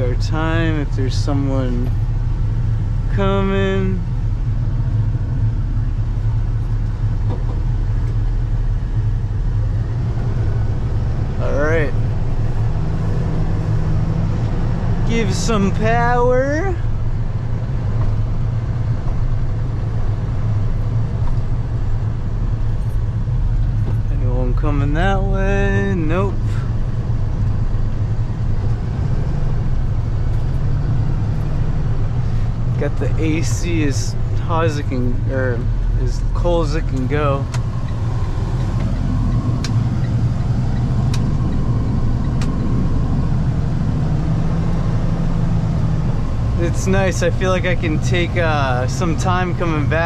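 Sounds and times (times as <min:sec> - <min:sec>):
road noise: 0:00.0 - 0:50.0
truck engine drone: 0:00.0 - 0:50.0.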